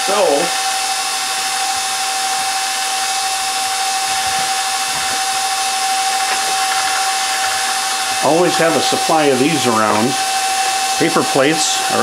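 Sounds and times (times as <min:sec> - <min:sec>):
stand mixer motor whining: 0:00.5 - 0:12.0.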